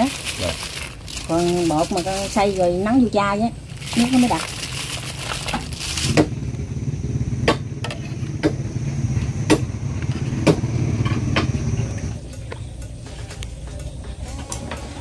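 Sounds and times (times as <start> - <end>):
small engine rumbling: 0.0 - 15.0.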